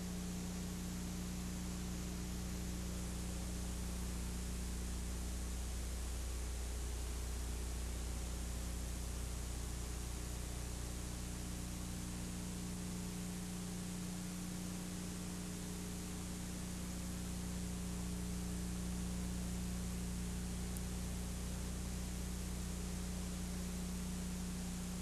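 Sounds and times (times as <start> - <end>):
low electrical hum: 0.0 - 25.0
tape hiss: 0.0 - 25.0.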